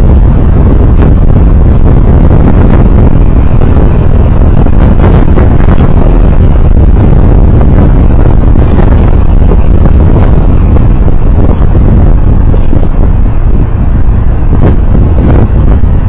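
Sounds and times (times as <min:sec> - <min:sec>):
wind and road noise rumble: 0:00.0 - 0:16.0.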